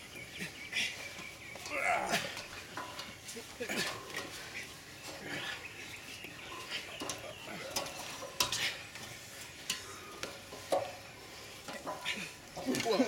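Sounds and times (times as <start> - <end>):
hands and feet knocking on metal bars: 0.2 - 13.0.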